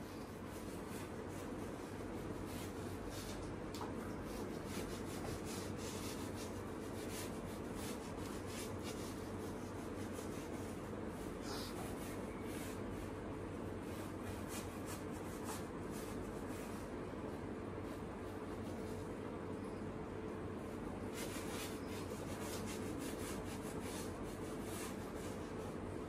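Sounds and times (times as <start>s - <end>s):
paintbrush scratching on canvas: 0.0s - 19.1s, 20.7s - 25.9s
faint steady hum: 0.0s - 26.0s.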